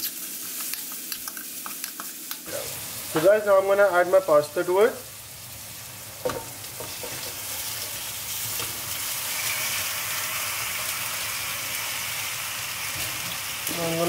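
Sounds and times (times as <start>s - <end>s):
vegetables sizzling in pan: 0.0s - 14.0s.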